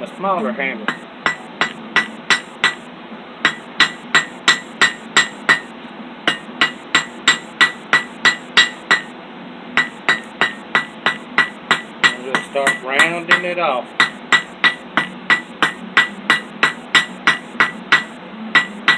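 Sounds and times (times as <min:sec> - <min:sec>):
hammer striking steel on anvil: 0:00.9 - 0:02.8, 0:03.4 - 0:05.7, 0:06.3 - 0:09.1, 0:09.8 - 0:18.9.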